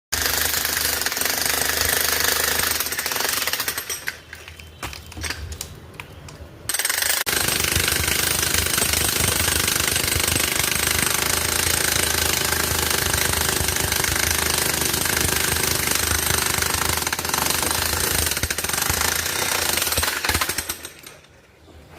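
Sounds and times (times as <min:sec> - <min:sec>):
jackhammer hammering concrete: 0:00.1 - 0:03.9, 0:06.7 - 0:20.8.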